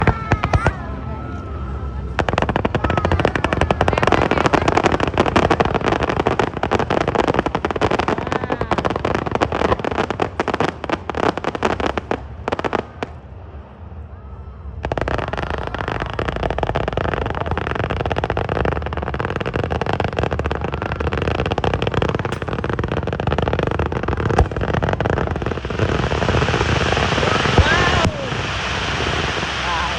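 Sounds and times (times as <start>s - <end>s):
fireworks crackling bangs: 0.0s - 1.2s, 1.9s - 14.0s, 14.7s - 29.9s
steady rush of noise: 0.0s - 29.9s.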